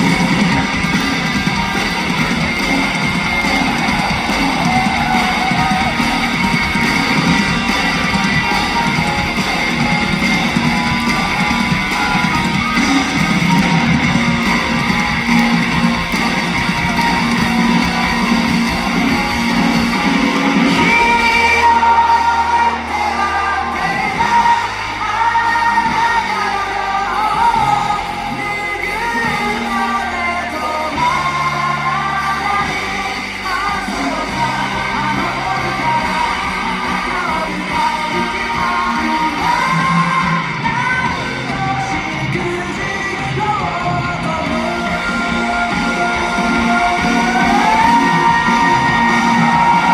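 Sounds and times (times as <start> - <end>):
crowd shouting along: 0.0 - 49.9
live rock band: 0.0 - 49.9
man singing lead vocal: 0.0 - 49.9.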